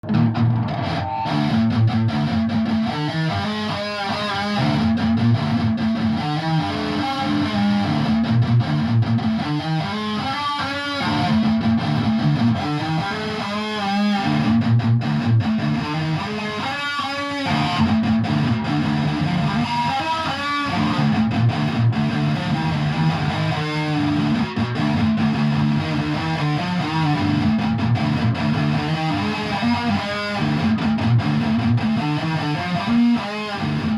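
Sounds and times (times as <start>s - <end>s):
guitar playing: 0.0s - 33.9s.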